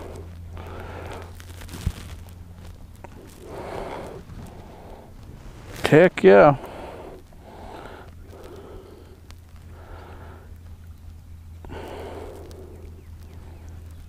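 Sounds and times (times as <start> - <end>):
person breathing close: 0.0 - 2.1, 3.0 - 10.6, 11.6 - 13.8
low steady hum: 0.0 - 14.0.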